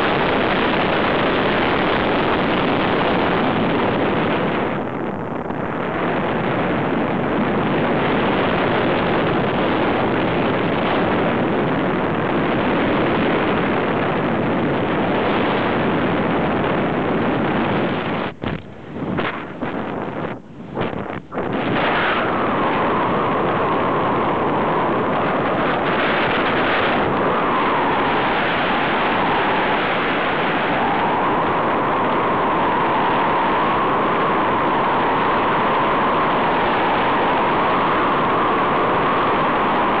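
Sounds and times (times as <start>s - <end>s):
wind rushing on microphone: 0.0s - 40.0s.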